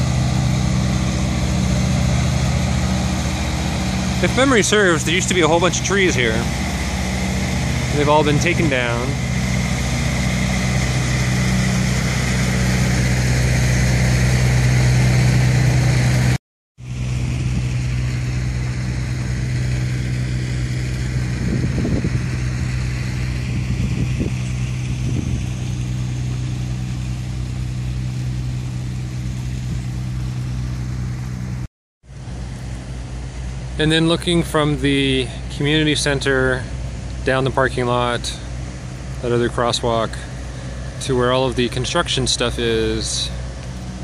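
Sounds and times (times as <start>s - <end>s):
engine humming steadily: 0.0s - 44.0s.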